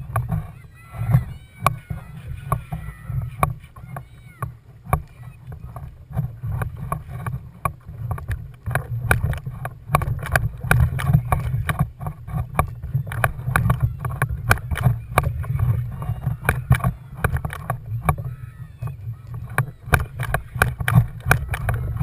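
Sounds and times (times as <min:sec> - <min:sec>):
water slapping against kayak hull: 0:00.0 - 0:22.0.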